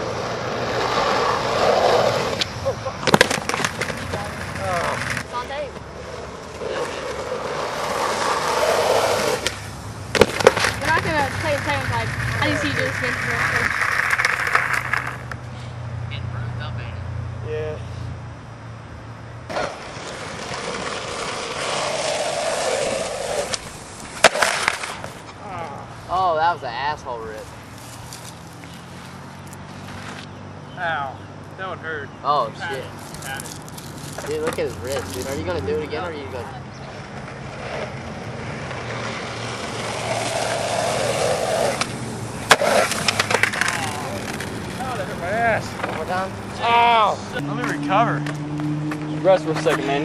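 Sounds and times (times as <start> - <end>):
skateboard wheels rolling on asphalt: 0.0 - 15.5, 19.5 - 30.6, 32.6 - 50.0.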